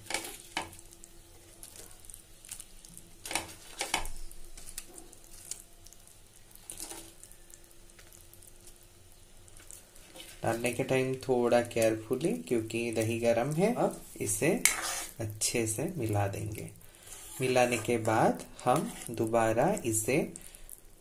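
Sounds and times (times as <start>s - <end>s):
faint low simmer: 0.0s - 21.0s.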